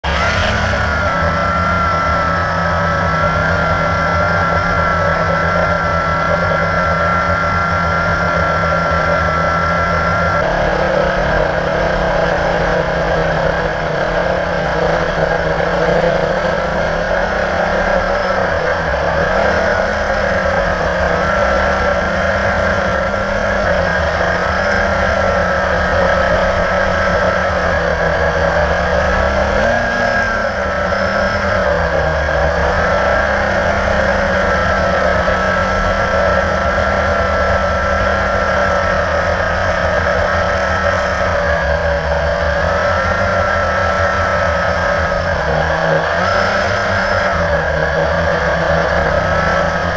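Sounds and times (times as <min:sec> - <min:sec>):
quadcopter motors whirring: 0:00.0 - 0:49.9.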